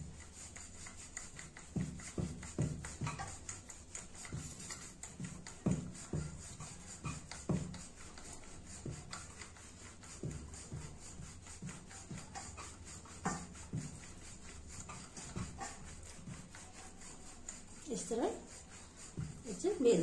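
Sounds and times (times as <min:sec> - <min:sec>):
rolling pin rubbing over dough: 0:00.0 - 0:20.0.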